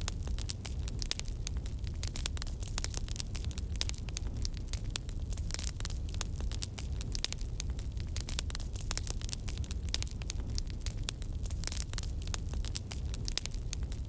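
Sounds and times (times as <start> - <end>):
fire popping and crackling: 0.0 - 14.0.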